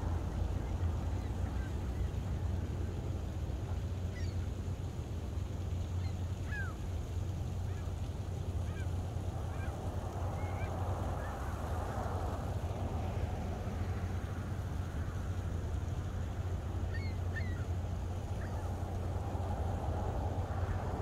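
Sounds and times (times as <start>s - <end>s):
gulls calling faintly: 0.0s - 21.0s.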